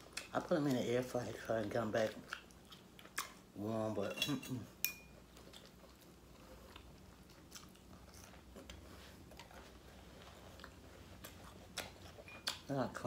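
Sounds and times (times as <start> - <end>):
faint chewing of soft food: 0.0 - 13.0.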